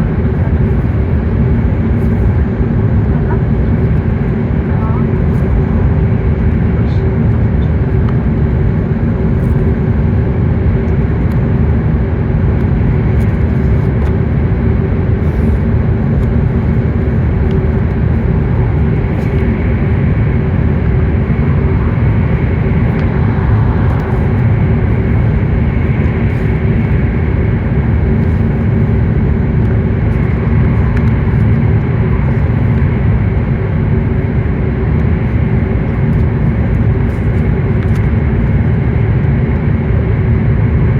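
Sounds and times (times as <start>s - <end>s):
faint steady hums: 0.0s - 40.9s.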